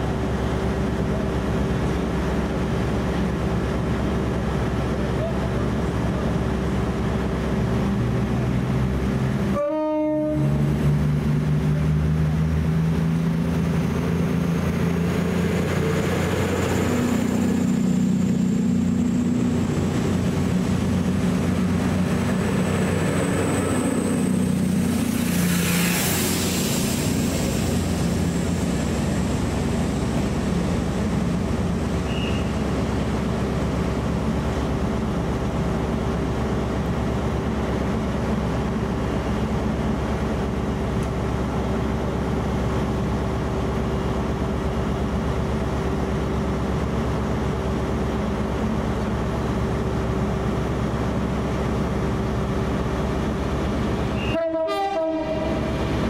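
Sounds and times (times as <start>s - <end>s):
train drone: 0.0s - 56.0s.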